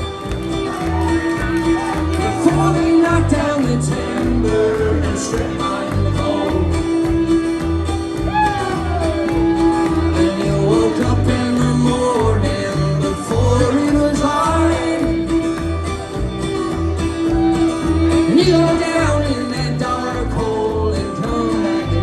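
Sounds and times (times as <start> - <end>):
acoustic country band playing: 0.0 - 22.0
bass line: 0.0 - 22.0
sliding melody: 0.0 - 22.0.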